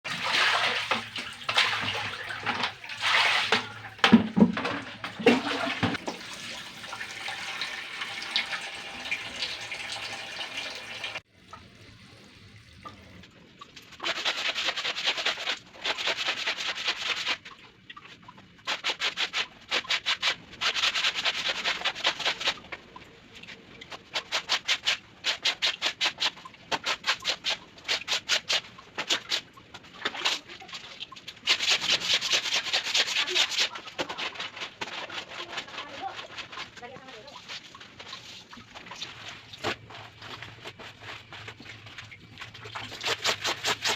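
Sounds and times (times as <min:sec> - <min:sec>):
water splashing and sloshing: 0:00.0 - 0:43.9
laundry being scrubbed: 0:00.1 - 0:11.2, 0:13.8 - 0:43.9.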